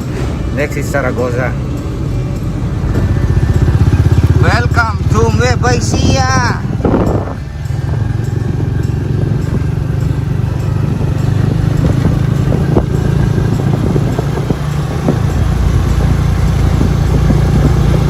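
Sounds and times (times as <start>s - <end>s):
motorcycle engine cruising: 0.0s - 18.0s
wind buffeting microphone: 1.8s - 18.0s.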